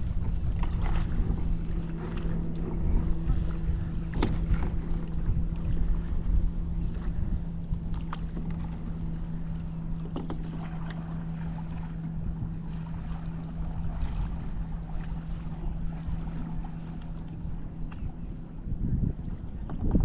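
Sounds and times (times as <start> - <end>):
paddles splashing in water: 0.0 - 18.3
steady low hum: 0.0 - 20.0
wind rumbling on microphone: 0.0 - 20.0.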